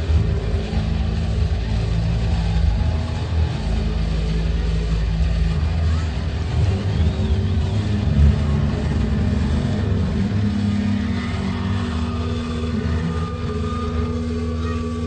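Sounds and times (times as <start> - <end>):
amplified instruments droning: 0.0 - 15.0.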